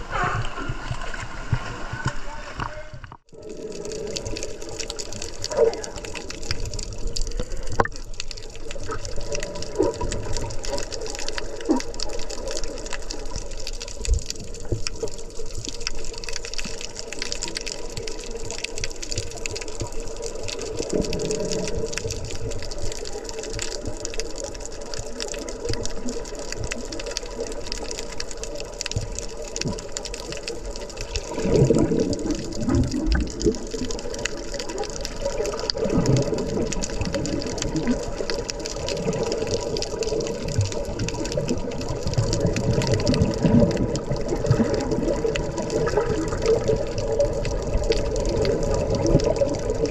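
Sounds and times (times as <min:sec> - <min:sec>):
muffled underwater water rush: 0:00.0 - 0:49.9
water gurgling: 0:00.0 - 0:49.9.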